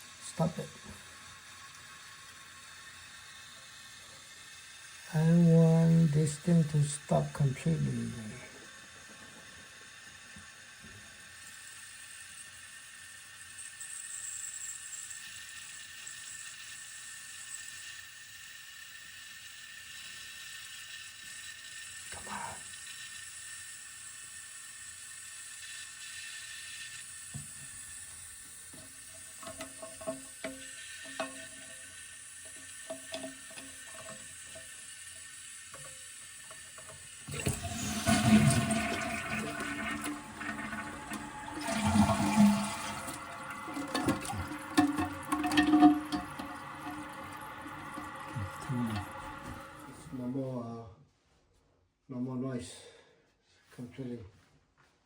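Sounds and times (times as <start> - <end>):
toilet fill valve hissing: 0.0 - 50.4.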